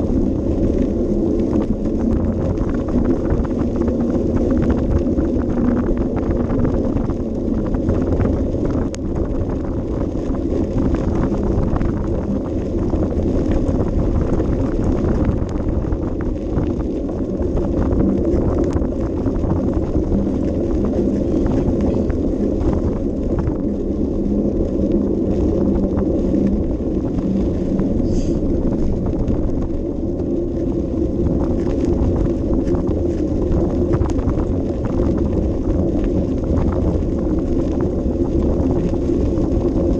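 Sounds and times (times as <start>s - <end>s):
bicycle tyres crunching gravel: 0.0s - 39.9s
wind rumble on microphone: 0.0s - 39.9s.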